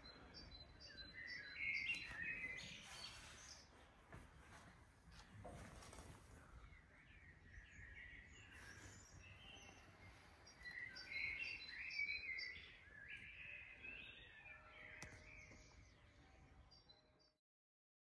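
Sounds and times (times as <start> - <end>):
birds chirping: 0.0 - 17.4.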